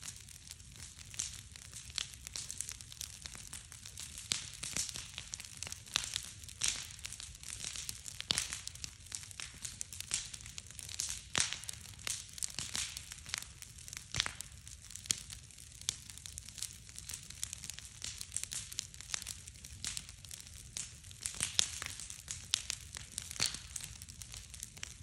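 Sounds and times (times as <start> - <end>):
bonfire crackling and popping: 0.0 - 25.0.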